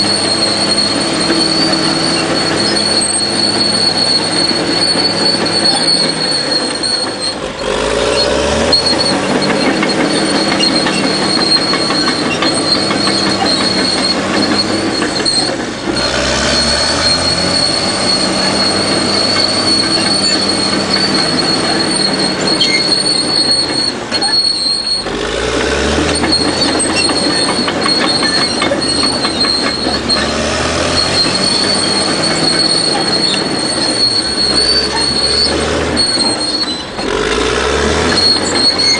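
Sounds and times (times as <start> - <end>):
bulldozer diesel engine: 0.0 - 38.9
steel tracks squealing and clattering: 0.0 - 38.9.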